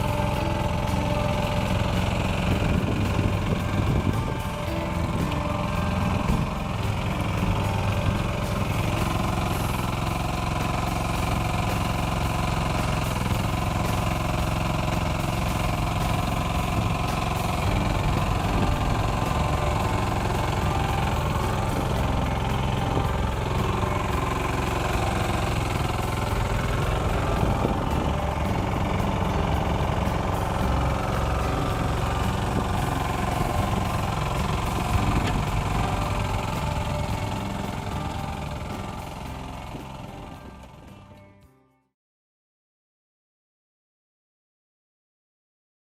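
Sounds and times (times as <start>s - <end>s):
diesel engine running with knocking: 0.0s - 41.6s.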